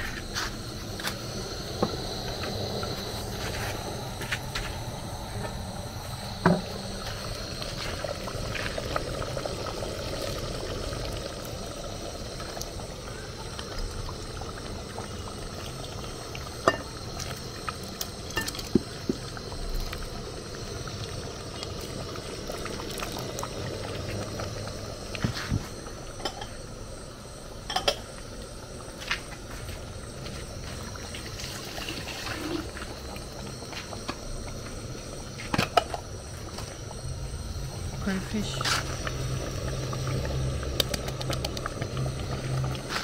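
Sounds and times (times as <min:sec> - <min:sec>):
soup bubbling in a pot: 0:00.0 - 0:43.0.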